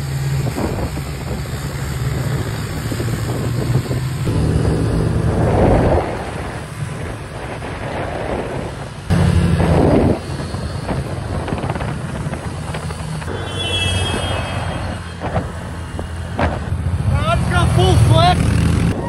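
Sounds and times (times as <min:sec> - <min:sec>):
quad bike engines droning: 0:00.0 - 0:19.0.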